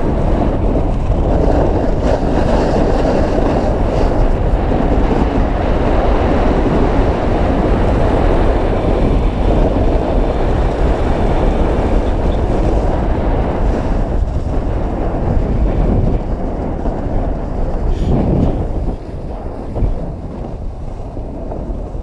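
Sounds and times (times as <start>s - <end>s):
wind buffeting microphone: 0.0s - 22.0s
skis scraping over snow: 0.2s - 22.0s.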